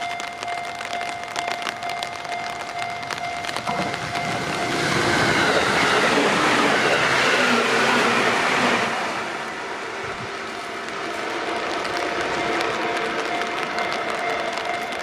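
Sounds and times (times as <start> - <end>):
level crossing warning bell: 0.0 - 9.0, 10.4 - 15.0
train rumbling past: 0.0 - 15.0.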